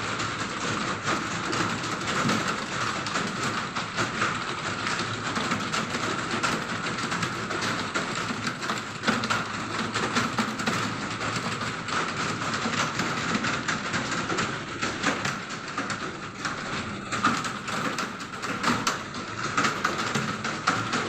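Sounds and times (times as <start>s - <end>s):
many keyboards typing: 0.0s - 21.0s.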